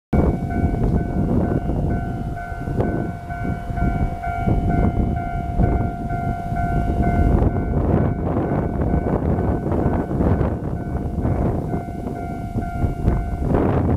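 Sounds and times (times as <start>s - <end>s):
low wind rumble on microphone: 0.1s - 13.9s
level crossing warning bell: 0.2s - 13.9s.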